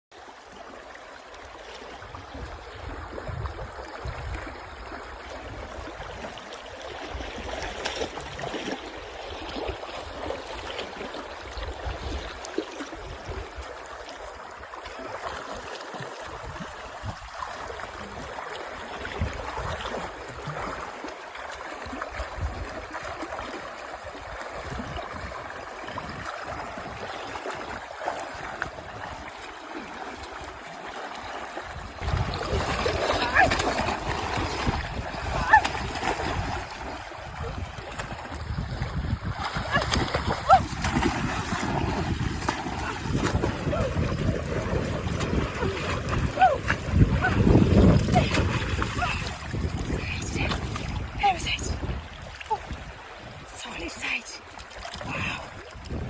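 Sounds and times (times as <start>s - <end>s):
water rushing: 0.1s - 56.0s.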